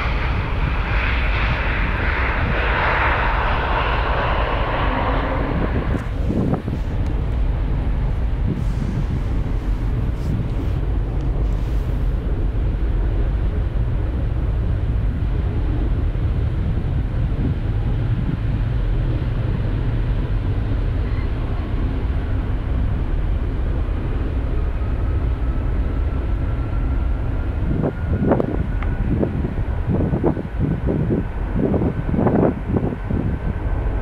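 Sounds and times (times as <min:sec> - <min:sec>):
faint engine whine: 0:00.0 - 0:34.0
jet engines rumbling: 0:00.0 - 0:34.0.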